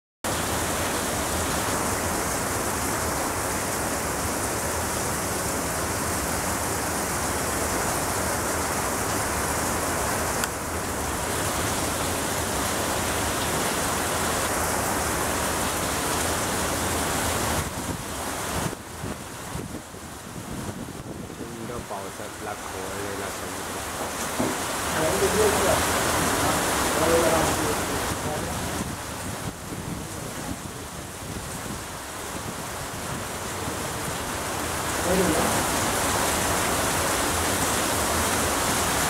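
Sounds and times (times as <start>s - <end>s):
heavy rain on corrugated roof: 0.2s - 39.0s.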